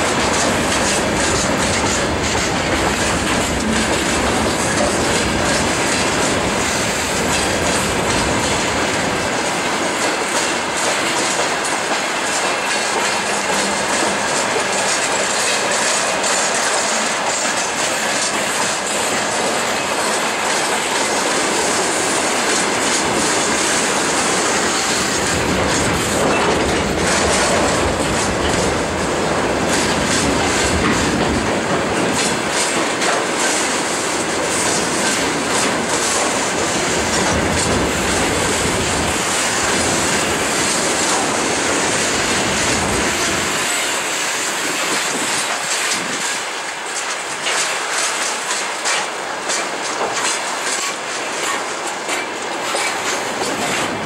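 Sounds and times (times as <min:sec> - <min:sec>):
clickety-clack over rail joints: 0:00.0 - 0:54.0
wheel-on-rail rumble: 0:00.0 - 0:54.0.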